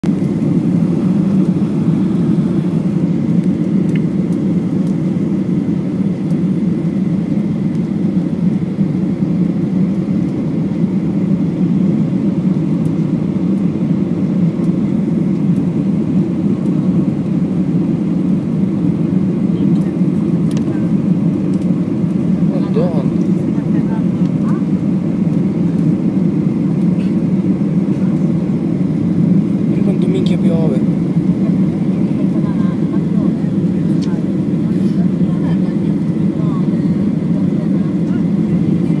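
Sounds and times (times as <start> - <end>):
aircraft cabin roar: 0.0 - 39.0.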